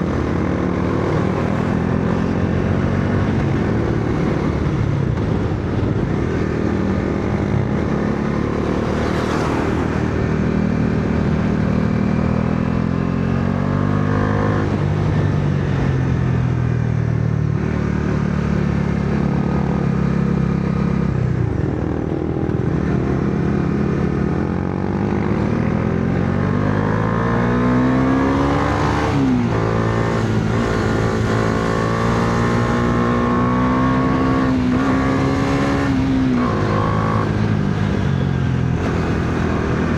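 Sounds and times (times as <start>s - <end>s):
motorcycle engine revving: 0.0s - 16.4s, 17.4s - 39.9s.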